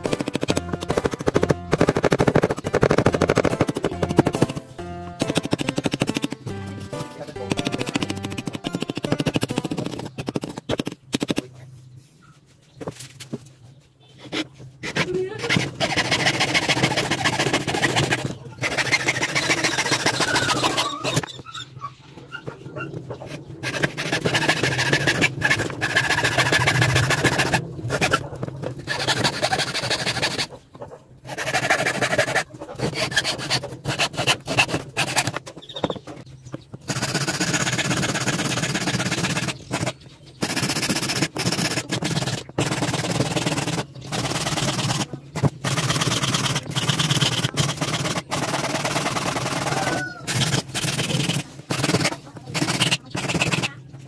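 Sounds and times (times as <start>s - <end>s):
metal file rasping wood: 0.0s - 11.4s, 14.2s - 21.4s, 23.3s - 30.6s, 31.2s - 35.5s, 36.8s - 53.8s
hacksaw cutting wood: 0.0s - 11.5s, 14.2s - 21.3s, 23.6s - 30.5s, 31.2s - 35.5s, 36.8s - 53.8s.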